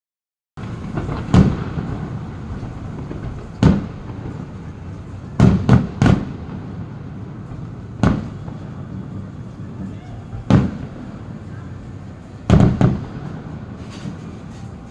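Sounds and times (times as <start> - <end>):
firework bangs: 0.6 - 14.9
rumble of small firework bursts: 0.6 - 14.9.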